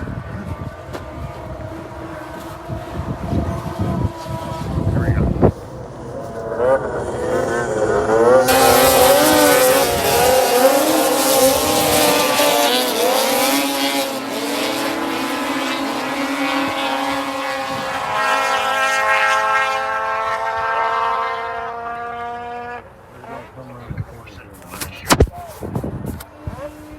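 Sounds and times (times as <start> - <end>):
snowmobile engines revving: 0.0 - 26.9.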